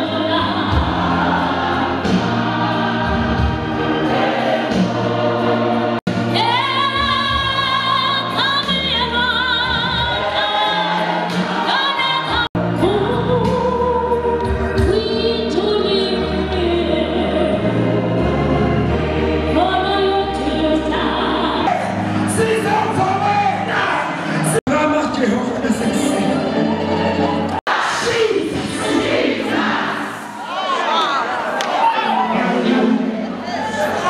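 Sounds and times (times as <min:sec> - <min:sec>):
choir singing gospel: 0:00.0 - 0:24.6, 0:25.6 - 0:34.0.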